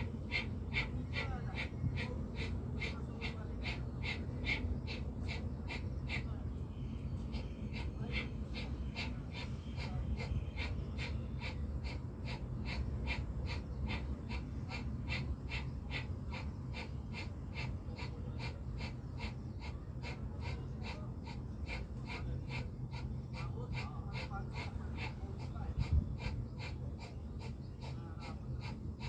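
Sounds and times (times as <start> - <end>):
rapid forceful nose breathing: 0.0 - 6.3, 7.1 - 29.0.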